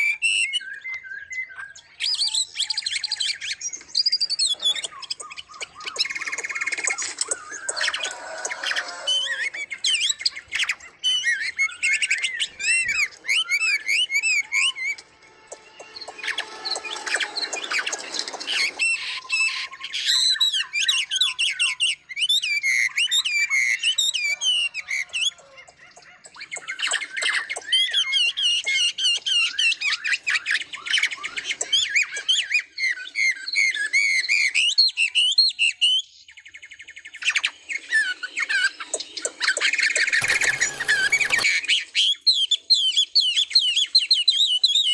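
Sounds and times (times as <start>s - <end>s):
birds chirping and singing: 0.0s - 44.9s.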